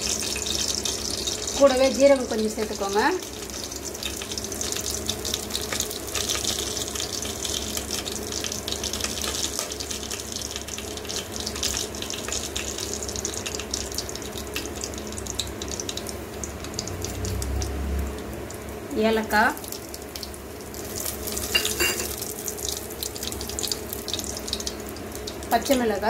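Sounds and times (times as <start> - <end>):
spices sizzling in hot oil: 0.0 - 26.0.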